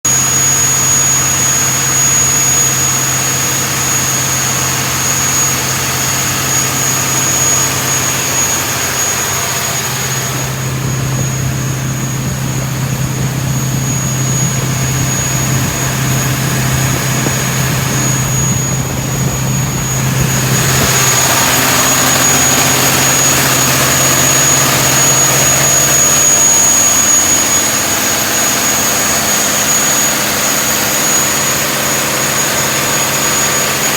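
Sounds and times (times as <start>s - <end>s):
engine running: 0.1s - 33.9s
high-pitched whine: 0.1s - 33.9s.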